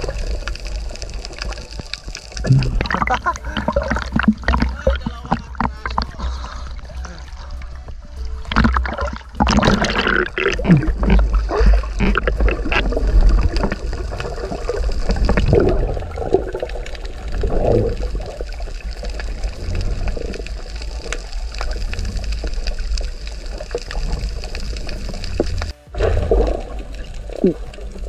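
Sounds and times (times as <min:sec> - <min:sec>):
splashing and bubbling: 0:00.0 - 0:28.0
underwater rumble: 0:00.0 - 0:28.0.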